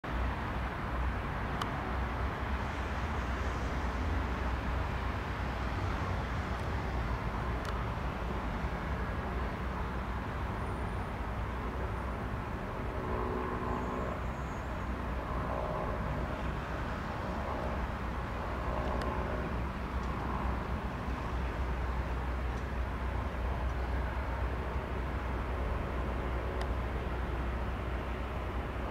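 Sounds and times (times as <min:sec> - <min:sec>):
aircraft piston engine rumble: 0:00.6 - 0:28.9.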